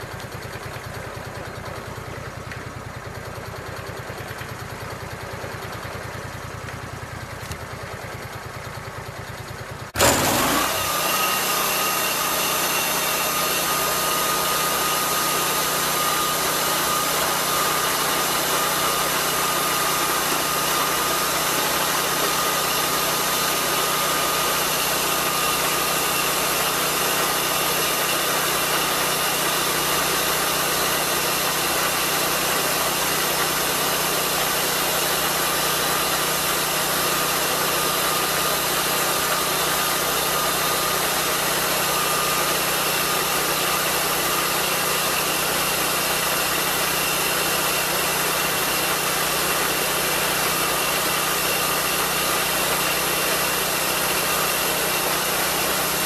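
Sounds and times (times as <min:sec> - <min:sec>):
sawmill engine running: 0:00.0 - 0:56.0
thin steady blade whine: 0:00.0 - 0:56.0.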